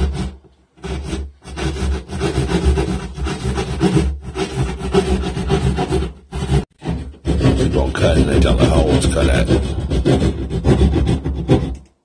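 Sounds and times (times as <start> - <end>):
hand saw cutting drywall: 0.0 - 12.0.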